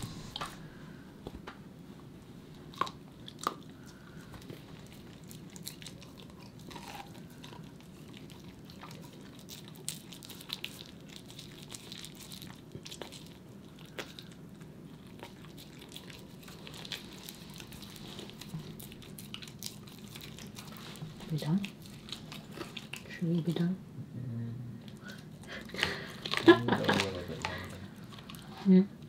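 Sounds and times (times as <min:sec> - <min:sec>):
dog gnawing on a bone: 0:02.5 - 0:23.7, 0:24.9 - 0:28.6.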